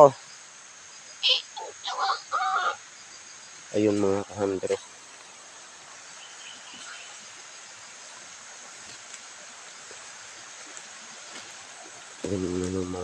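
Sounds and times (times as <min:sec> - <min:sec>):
forest ambience hiss: 0:00.0 - 0:13.0.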